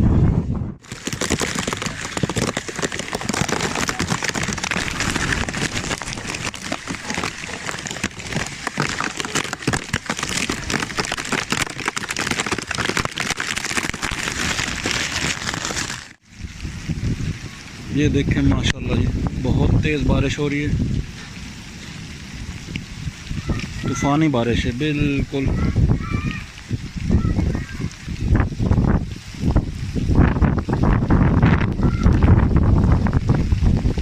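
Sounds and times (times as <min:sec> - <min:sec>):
heavy rain falling: 0:00.8 - 0:34.0.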